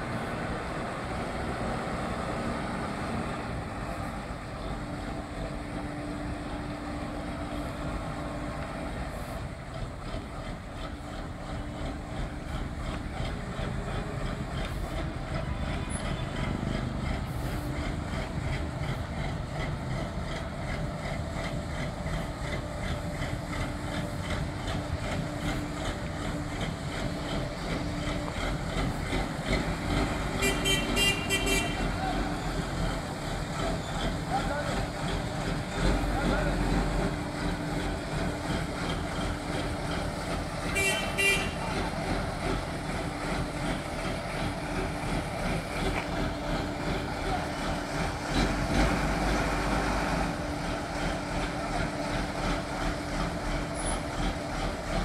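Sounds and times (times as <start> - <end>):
forklift diesel engine running: 0.0 - 55.0.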